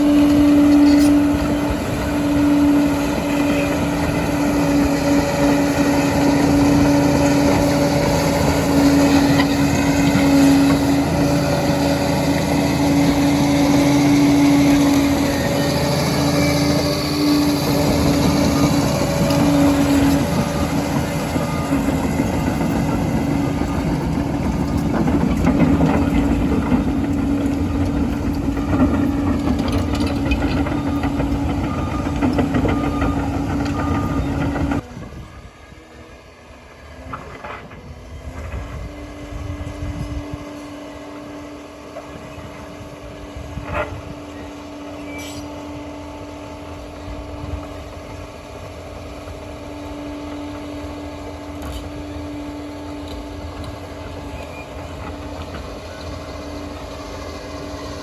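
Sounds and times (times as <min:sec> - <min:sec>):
dozer diesel engine rumbling: 0:00.0 - 0:40.2, 0:41.0 - 0:58.0.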